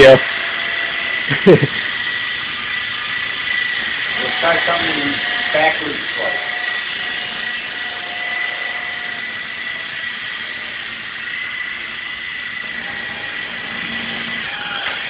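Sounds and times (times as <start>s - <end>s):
toy helicopter motor whine: 0.0s - 15.0s.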